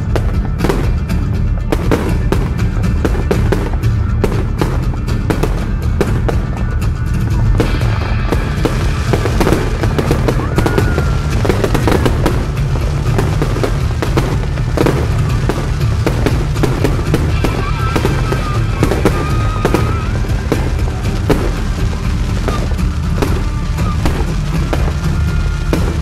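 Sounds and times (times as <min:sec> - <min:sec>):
fireworks cracking and popping: 0:00.0 - 0:26.0
music over sound system: 0:00.0 - 0:26.0.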